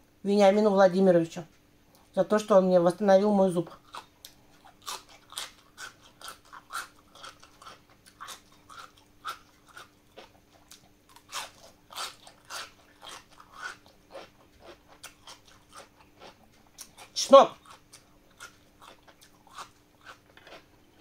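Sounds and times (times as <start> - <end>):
crunchy chewing: 3.7 - 21.0.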